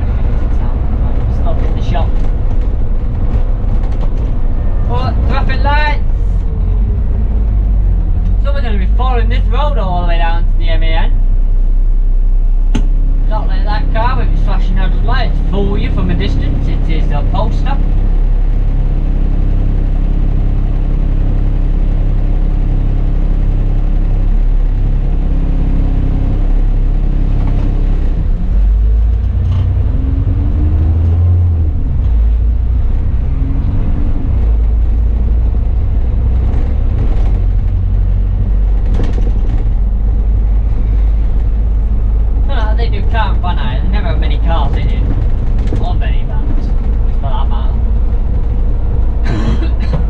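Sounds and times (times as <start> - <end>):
bus engine running: 0.0 - 50.0.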